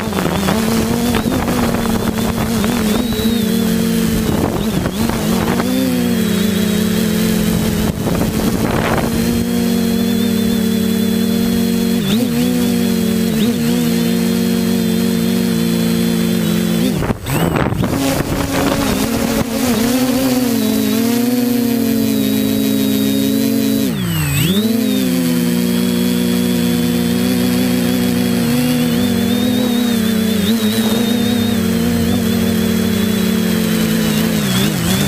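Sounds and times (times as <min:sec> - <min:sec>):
quadcopter motors humming: 0:00.0 - 0:35.0.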